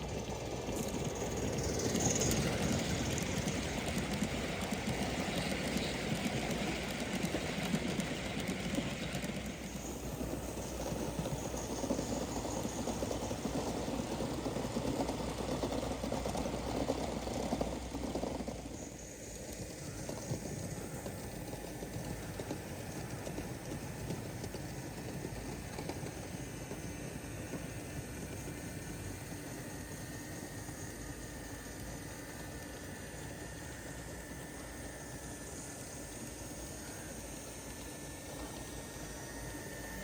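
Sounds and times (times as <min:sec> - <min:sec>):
wheel clatter: 0:00.0 - 0:39.0
steady steam hiss: 0:00.0 - 0:40.0.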